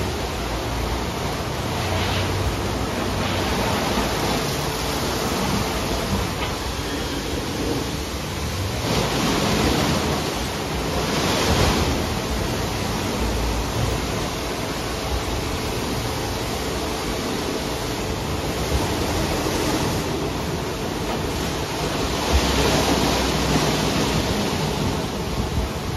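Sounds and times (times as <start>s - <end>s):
water spraying: 0.0s - 25.9s.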